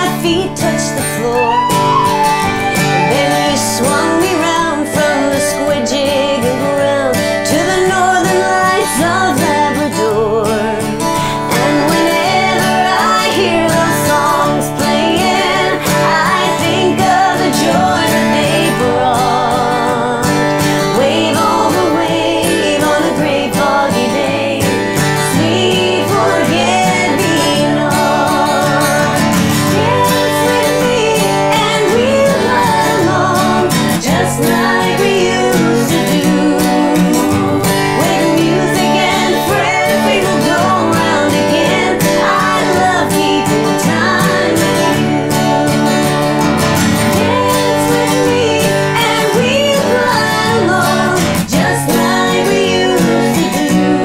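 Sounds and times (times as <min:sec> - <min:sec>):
strummed acoustic guitar: 0:00.0 - 0:54.0
women singing: 0:00.0 - 0:54.0.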